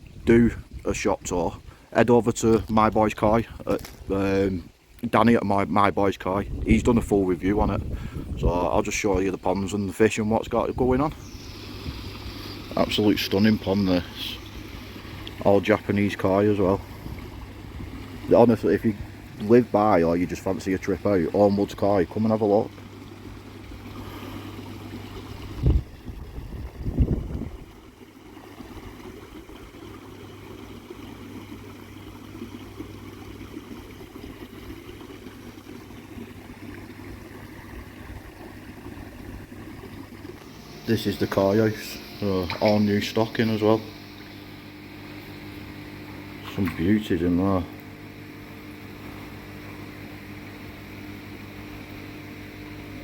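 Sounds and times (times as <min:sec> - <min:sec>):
pump humming: 0:00.0 - 0:53.0
running water: 0:00.0 - 0:53.0.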